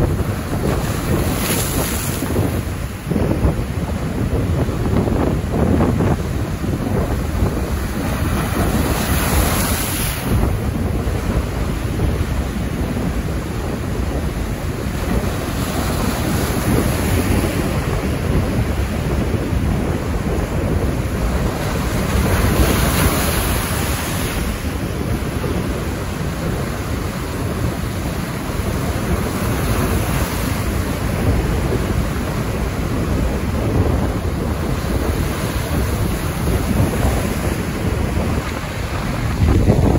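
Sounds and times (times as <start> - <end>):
wind: 0.0 - 39.9
wind rumble on microphone: 0.0 - 39.9.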